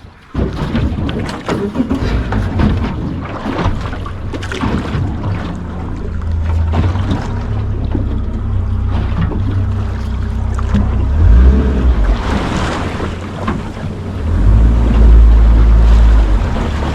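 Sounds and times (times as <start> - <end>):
boat engine humming: 0.0 - 16.9
knocks and splashes: 0.0 - 16.9
wind: 0.0 - 16.9.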